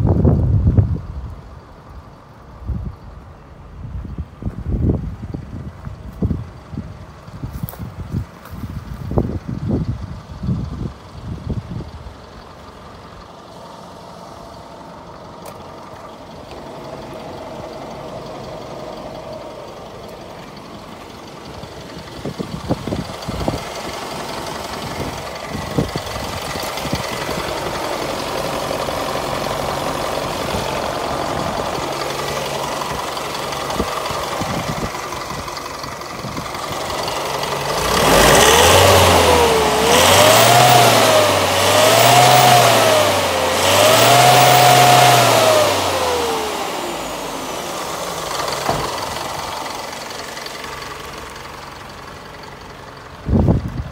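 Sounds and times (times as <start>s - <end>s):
truck diesel engine idling and revving: 0.0s - 53.9s.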